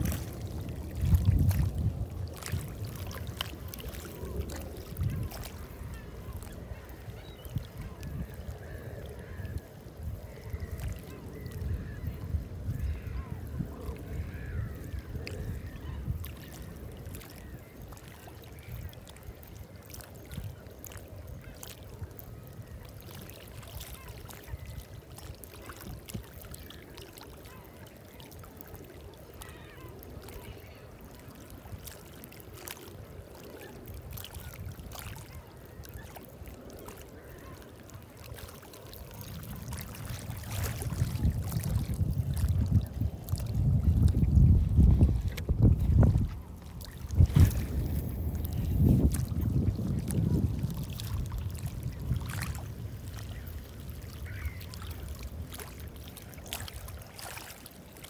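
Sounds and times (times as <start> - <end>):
wind buffeting microphone: 0.0 - 27.0, 33.0 - 57.2.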